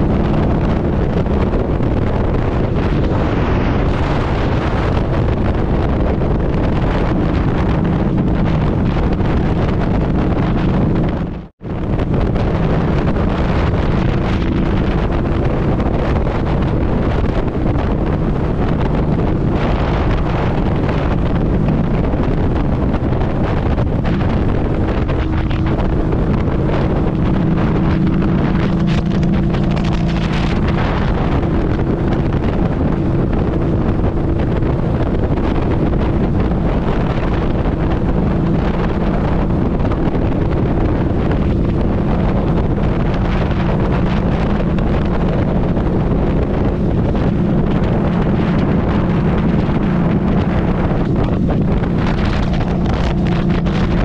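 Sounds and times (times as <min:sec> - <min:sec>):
motorcycle engine cruising: 0:00.0 - 0:54.0
wind noise on microphone: 0:00.0 - 0:54.0.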